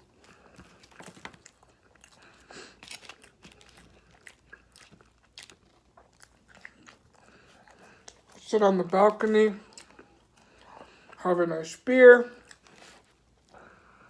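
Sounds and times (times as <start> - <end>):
person chewing and crunching food: 0.0 - 14.0.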